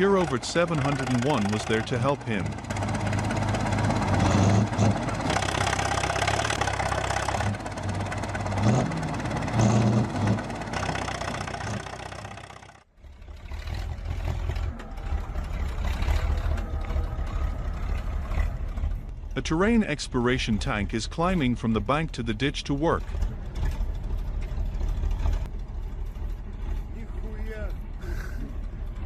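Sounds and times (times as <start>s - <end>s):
deep engine rumble: 0.0s - 29.0s
tractor engines running: 0.0s - 29.0s.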